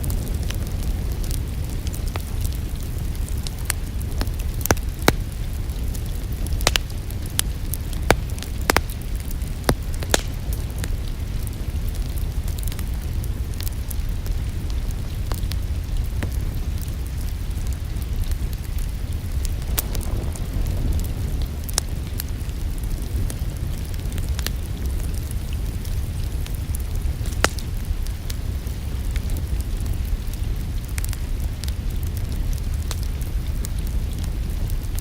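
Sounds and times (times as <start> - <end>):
steady low rumble: 0.0 - 35.0
wood fire crackling and popping: 0.0 - 35.0.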